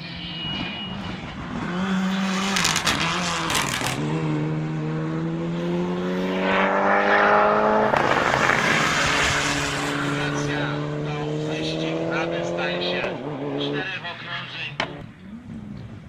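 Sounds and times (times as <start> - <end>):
car engine at full throttle: 0.0 - 16.0
engine crackles: 1.1 - 16.0.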